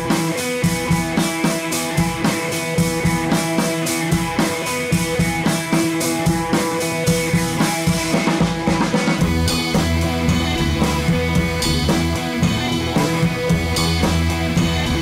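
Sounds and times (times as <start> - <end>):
held instrumental tones: 0.0 - 15.0
steady drum beat: 0.0 - 15.0.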